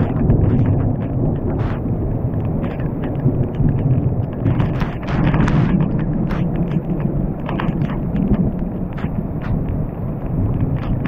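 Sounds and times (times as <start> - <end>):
heavy rain on rain gear: 0.0 - 11.0.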